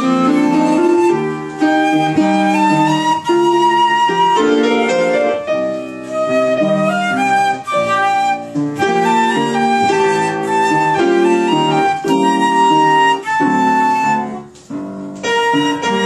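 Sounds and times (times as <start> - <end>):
flute melody: 0.0 - 16.0
piano accompaniment: 0.0 - 16.0.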